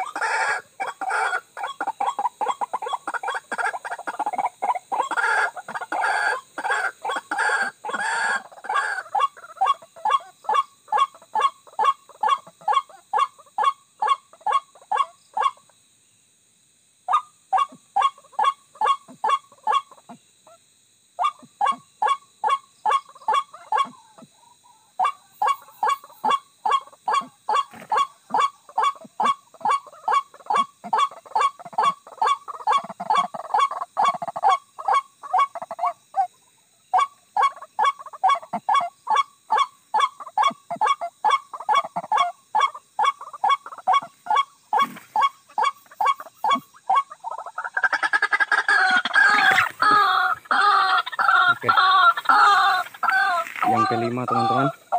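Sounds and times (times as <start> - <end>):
bird croaking calls: 0.0 - 15.6, 21.2 - 54.9.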